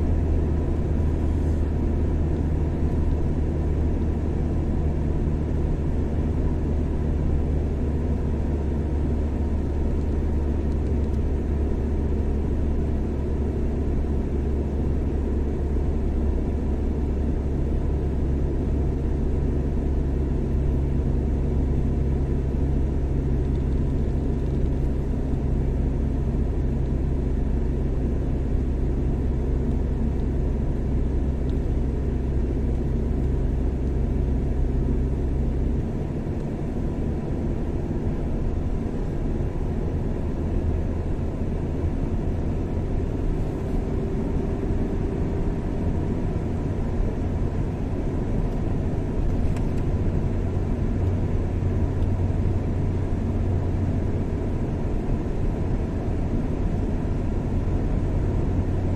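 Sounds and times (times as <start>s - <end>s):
car driving engine and tyre rumble: 0.0s - 58.9s.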